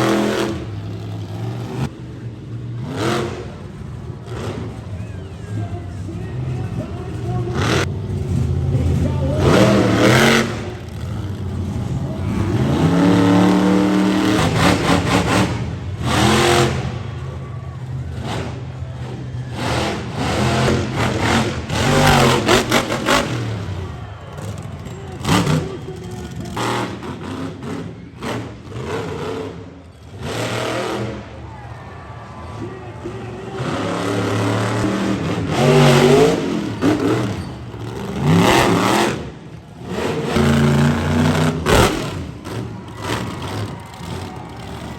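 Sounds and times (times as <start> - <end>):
truck engine revving hard: 0.0 - 44.9.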